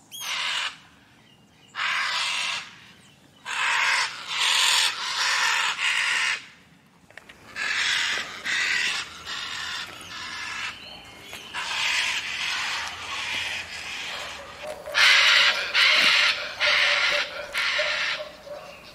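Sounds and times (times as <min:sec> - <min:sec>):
macaws squawking: 0:00.1 - 0:00.8, 0:01.8 - 0:02.8, 0:03.4 - 0:06.6, 0:07.3 - 0:18.9.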